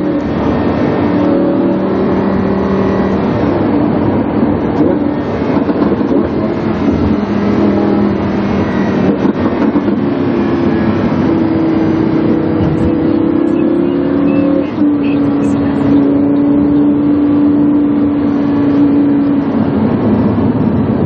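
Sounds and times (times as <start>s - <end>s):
car exhaust note: 0.0s - 21.0s.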